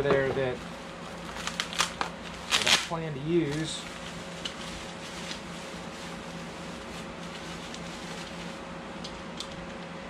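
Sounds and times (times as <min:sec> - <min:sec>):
room tone hum and hiss: 0:00.0 - 0:10.0
bubble wrap crinkling: 0:00.7 - 0:09.4.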